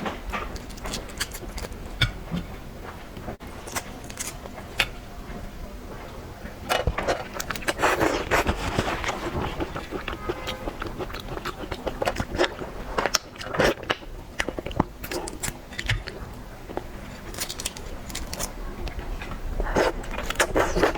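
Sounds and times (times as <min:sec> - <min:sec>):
shell crackling and crunching: 0:00.0 - 0:02.2, 0:03.4 - 0:05.0, 0:06.7 - 0:20.9.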